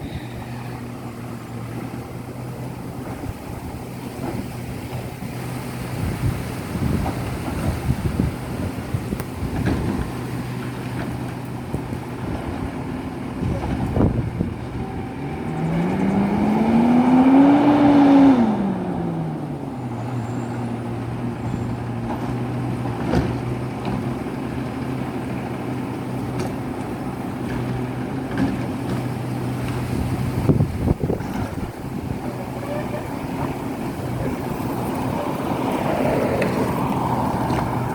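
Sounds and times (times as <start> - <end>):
garbage truck engine idling and revving: 0.0 - 37.9.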